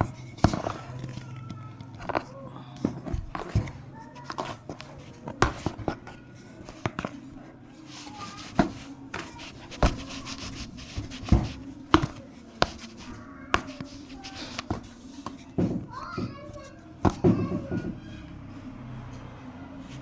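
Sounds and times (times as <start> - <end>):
handling noise: 0.0 - 18.1.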